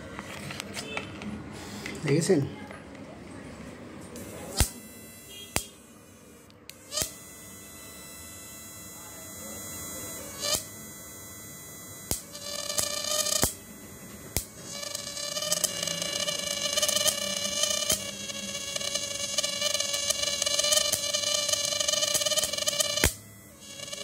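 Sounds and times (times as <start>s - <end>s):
inverter buzzing: 3.8s - 24.0s
high whine: 4.2s - 24.0s.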